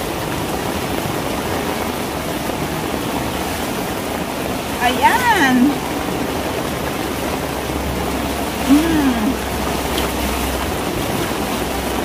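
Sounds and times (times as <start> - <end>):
heavy rain on a tiled roof: 0.0 - 12.0.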